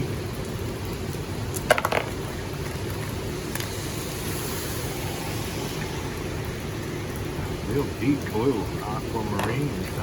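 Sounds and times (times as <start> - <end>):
low rush of water: 0.0 - 10.0.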